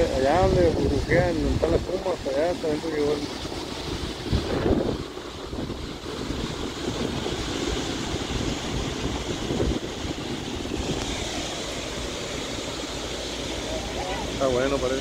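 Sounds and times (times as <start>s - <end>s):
water rushing through floodgates: 0.0s - 15.0s
wind buffeting microphone: 0.0s - 15.0s.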